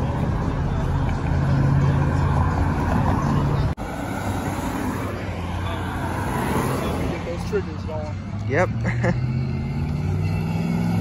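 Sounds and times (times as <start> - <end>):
cars and trucks passing: 0.0 - 11.0.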